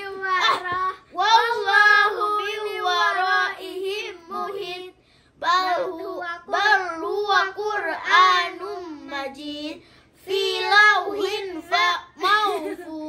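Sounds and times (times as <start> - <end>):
children chanting verses: 0.0 - 9.6, 10.2 - 12.0.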